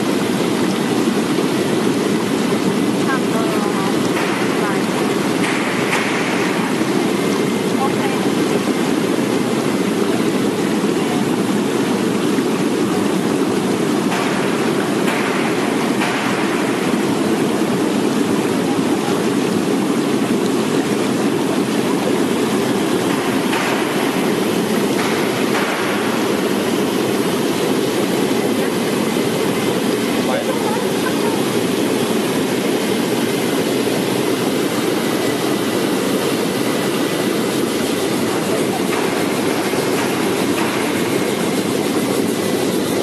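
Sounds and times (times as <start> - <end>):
water churning and bubbling: 0.0 - 43.0.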